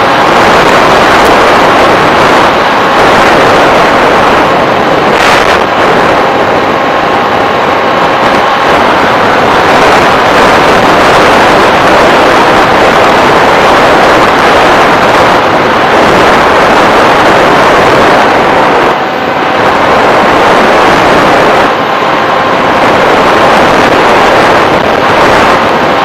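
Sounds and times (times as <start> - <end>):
propeller and wind rush: 0.0 - 26.0.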